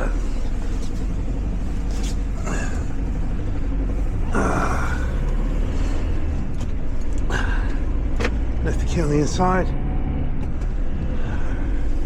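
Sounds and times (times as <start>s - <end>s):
road noise: 0.0s - 12.0s
van engine rumble: 0.0s - 12.0s.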